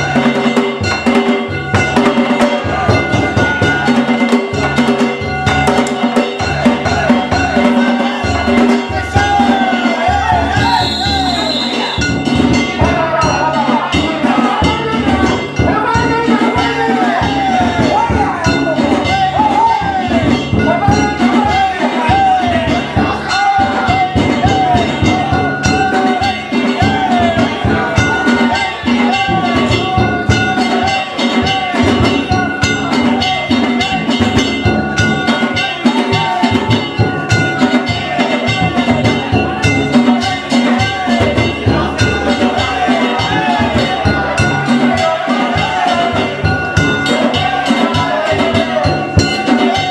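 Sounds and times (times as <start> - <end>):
drum strikes: 0.0 - 49.9
ringing metal gongs: 0.0 - 49.9.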